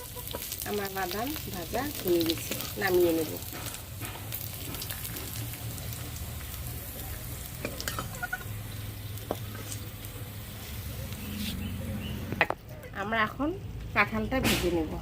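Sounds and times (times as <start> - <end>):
hot oil sizzling: 0.0 - 13.2.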